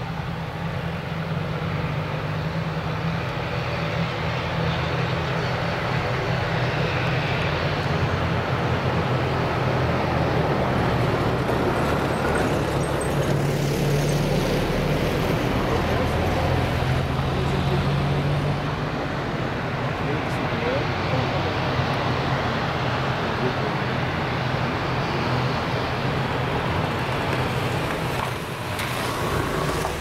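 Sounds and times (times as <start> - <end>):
rushing turbine noise: 0.0 - 30.0
turboprop engines droning: 0.0 - 30.0.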